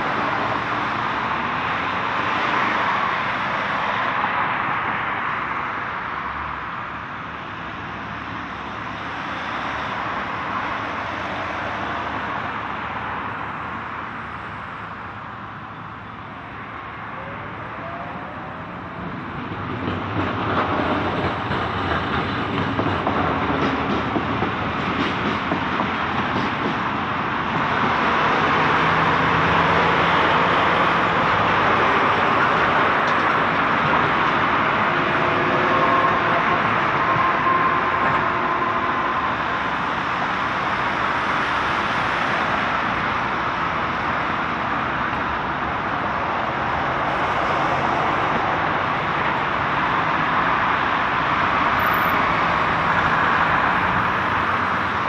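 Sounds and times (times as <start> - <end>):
street traffic passing: 0.0 - 55.0.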